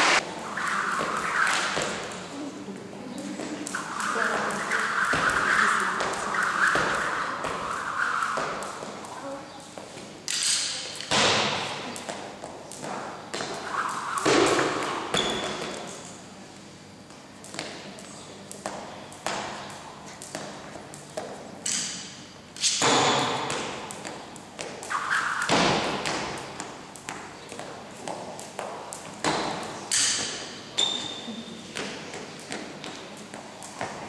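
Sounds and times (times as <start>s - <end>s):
jump rope slapping floor: 0.0s - 2.4s, 3.2s - 16.1s, 17.4s - 34.0s.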